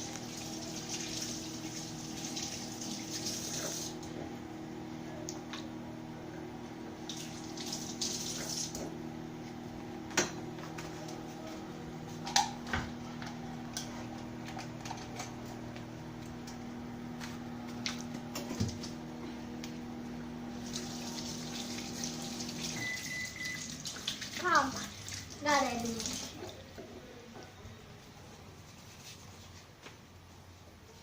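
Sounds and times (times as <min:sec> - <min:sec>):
microwave oven humming: 0:00.0 - 0:28.5.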